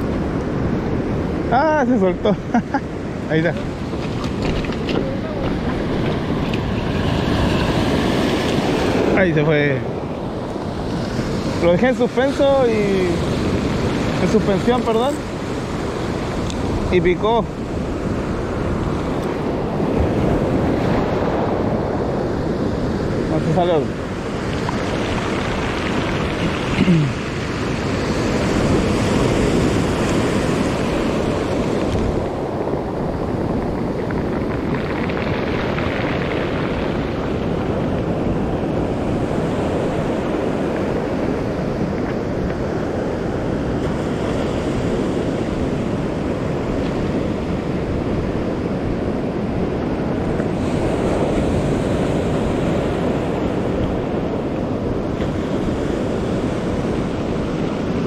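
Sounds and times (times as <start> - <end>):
waves breaking on shore: 0.0 - 58.0
wind rumbling on microphone: 0.0 - 58.0.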